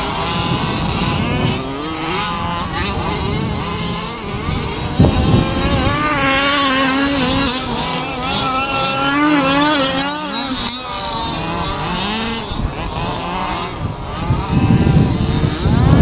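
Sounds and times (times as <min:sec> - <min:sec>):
small two-stroke engines revving: 0:00.0 - 0:16.0.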